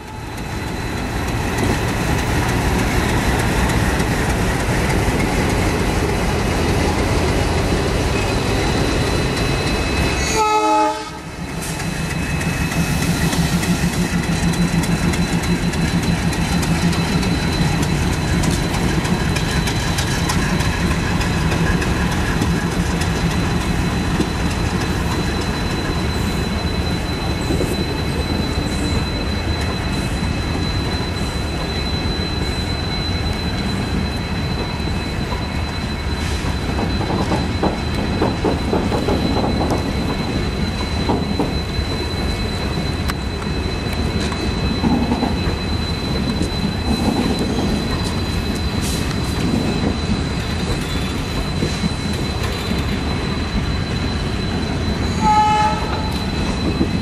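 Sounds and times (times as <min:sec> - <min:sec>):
diesel locomotive engine running: 0:00.0 - 0:57.0
wheels clickety-clack over rail joints: 0:00.0 - 0:57.0.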